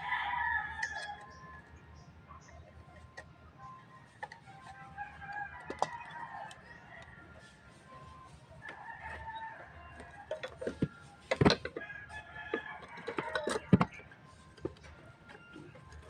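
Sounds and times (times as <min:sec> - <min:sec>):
chickens clucking and crowing: 0:00.0 - 0:16.0.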